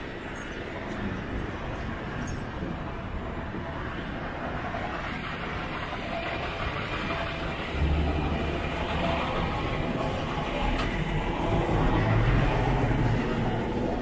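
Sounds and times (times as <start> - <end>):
bus engine approaching: 0.0 - 14.0
street traffic rumble: 0.0 - 14.0.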